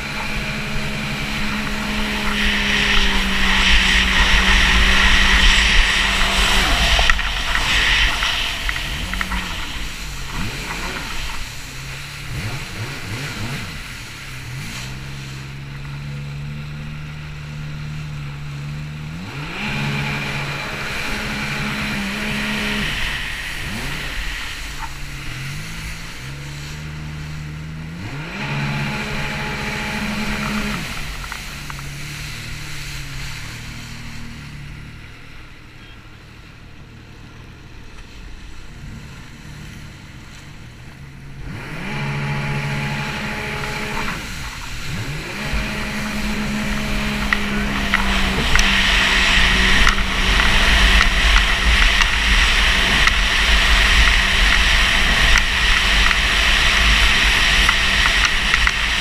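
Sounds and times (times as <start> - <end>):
water rushing hiss: 0.0 - 59.0
watercraft engine running: 0.0 - 59.0.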